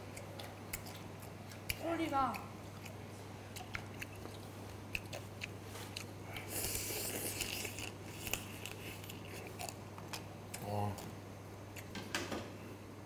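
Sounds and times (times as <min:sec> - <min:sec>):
person chewing crayfish: 0:00.0 - 0:11.9.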